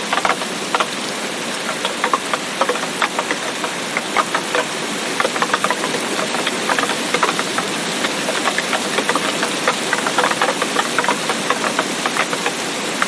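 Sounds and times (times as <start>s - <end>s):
rain hissing: 0.0s - 13.0s
raindrop taps: 0.0s - 13.0s.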